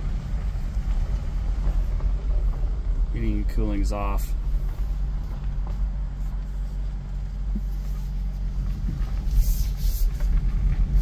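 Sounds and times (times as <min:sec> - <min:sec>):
car engine rumble in cabin: 0:00.0 - 0:11.0.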